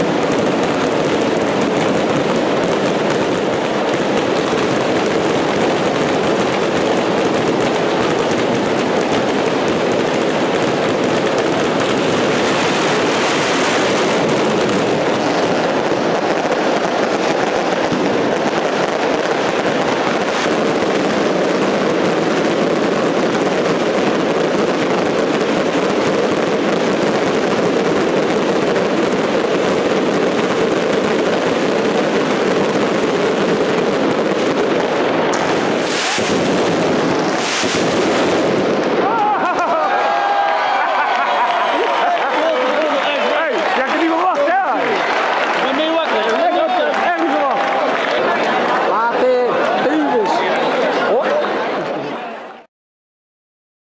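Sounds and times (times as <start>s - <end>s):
fireworks crackling: 0.0s - 52.1s.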